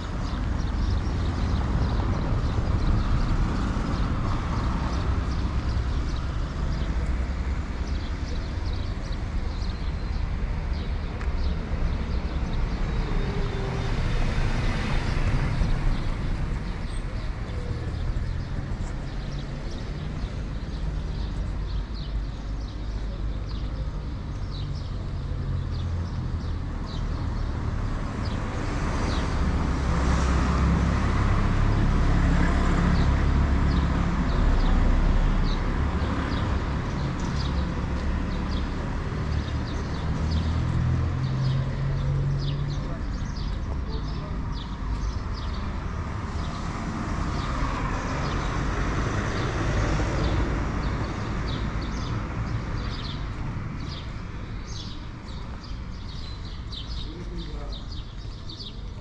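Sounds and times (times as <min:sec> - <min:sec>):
cars on the road: 0:00.0 - 0:59.0.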